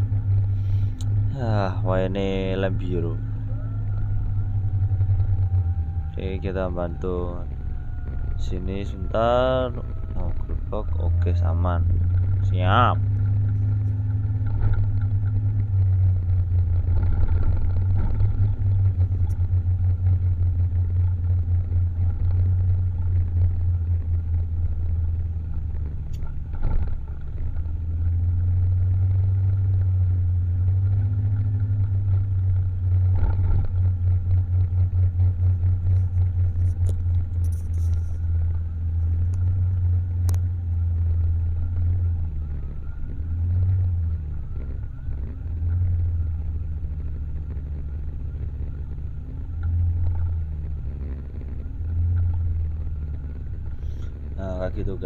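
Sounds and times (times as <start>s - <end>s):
motor scooter engine rumble: 0.0s - 55.0s.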